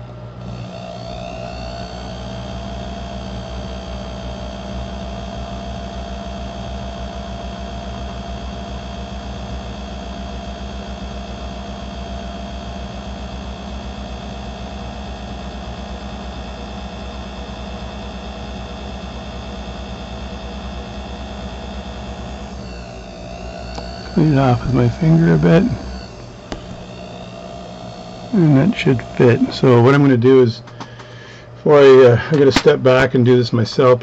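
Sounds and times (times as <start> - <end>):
small electric motor humming: 0.0 - 32.0.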